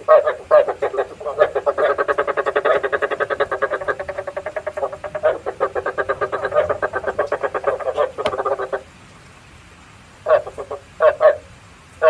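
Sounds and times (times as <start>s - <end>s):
frog croaking rapidly: 0.0s - 8.9s, 10.2s - 11.5s.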